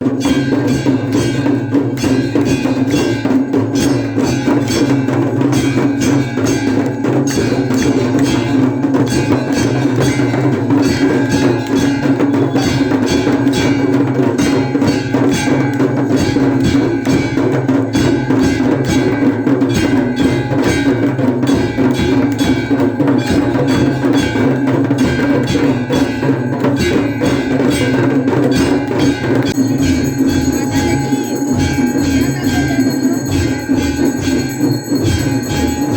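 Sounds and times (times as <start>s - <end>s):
percussion struck rapidly: 0.0s - 35.9s
temple bells ringing: 0.0s - 35.9s.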